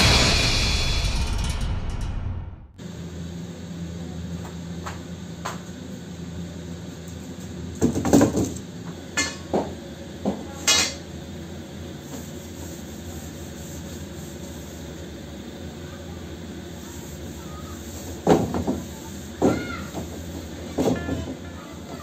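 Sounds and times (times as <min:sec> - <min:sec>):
steady low hum: 0:00.0 - 0:18.2.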